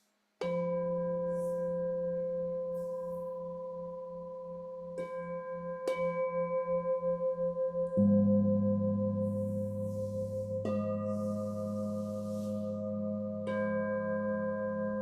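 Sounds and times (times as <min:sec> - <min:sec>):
singing bowl ringing: 0:00.6 - 0:15.0.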